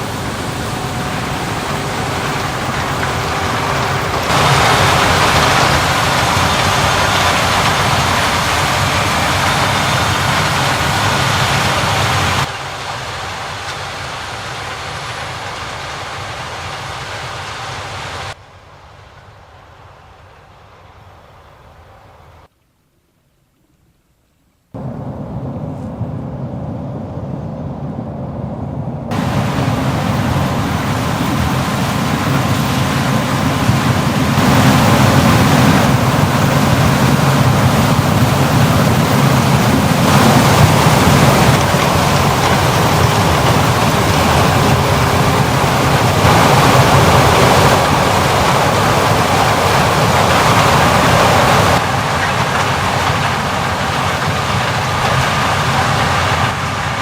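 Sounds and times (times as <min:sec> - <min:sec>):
diesel farm machinery engine hum: 0:00.0 - 0:18.4, 0:24.8 - 0:57.0
mechanical hiss: 0:00.0 - 0:18.4, 0:29.1 - 0:56.9.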